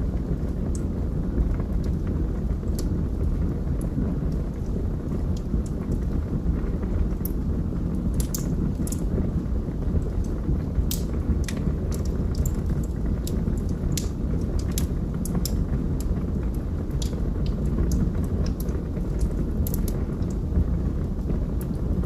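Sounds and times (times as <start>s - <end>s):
log fire crackling and popping: 0.0s - 22.0s.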